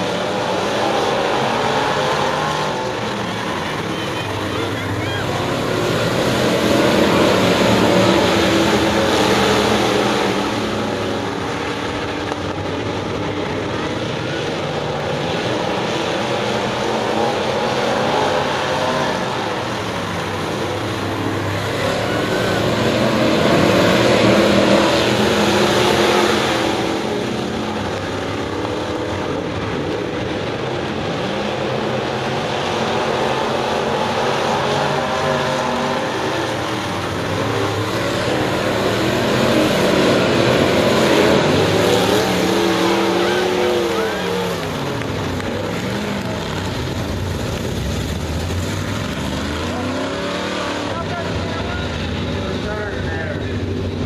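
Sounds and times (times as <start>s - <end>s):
race car engines roaring: 0.0s - 54.0s.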